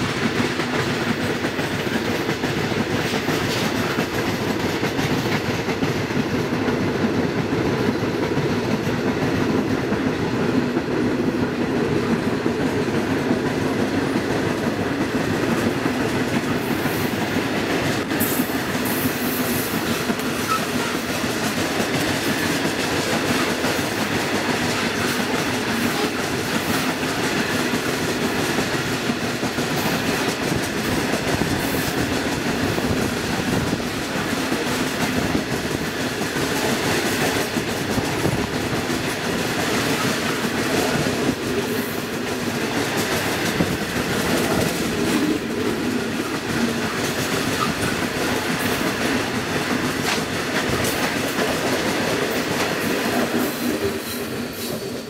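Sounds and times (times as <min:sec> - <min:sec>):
train wagons rumbling on rails: 0:00.0 - 0:55.0
wheels clickety-clack: 0:00.0 - 0:55.0.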